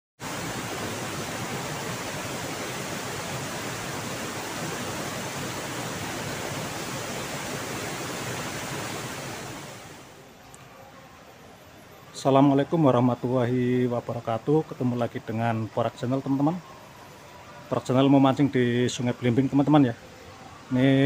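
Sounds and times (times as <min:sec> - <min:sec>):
waterfall and river rushing: 0:00.2 - 0:10.4, 0:12.0 - 0:21.0.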